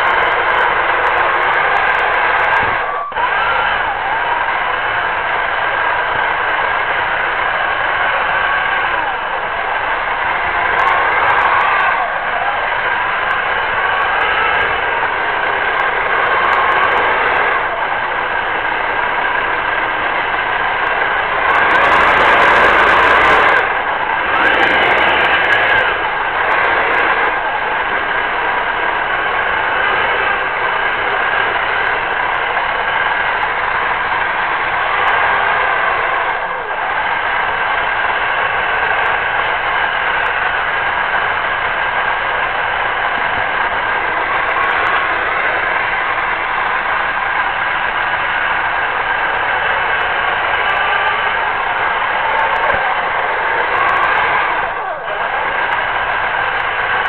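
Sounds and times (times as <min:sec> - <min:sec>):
toy tank motors and tracks running: 0:00.0 - 0:57.0.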